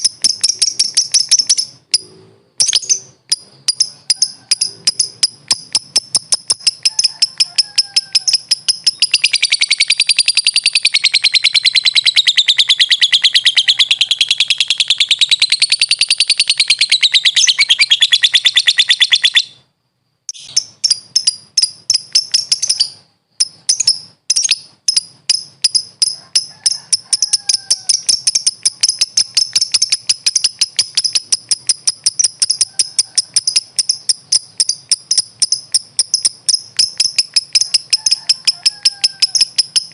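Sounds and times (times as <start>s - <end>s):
lovebird chirping and chattering: 0.0s - 19.7s, 20.3s - 39.9s.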